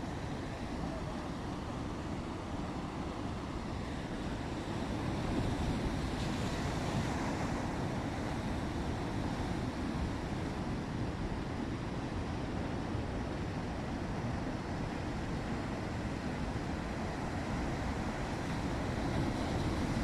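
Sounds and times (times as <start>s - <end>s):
waves surging and breaking: 0.0s - 20.0s.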